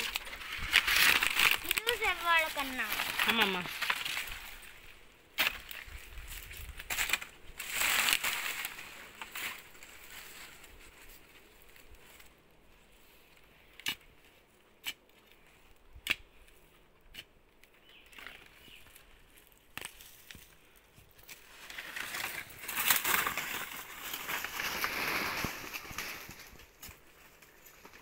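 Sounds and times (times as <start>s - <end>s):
dry leaves and soil rustling: 0.0s - 28.0s.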